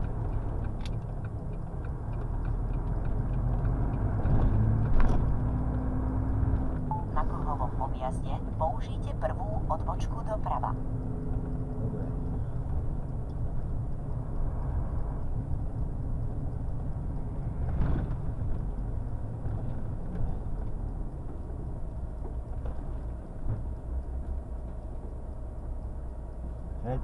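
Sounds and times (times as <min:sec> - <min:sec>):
truck engine and road rumble: 0:00.0 - 0:27.0.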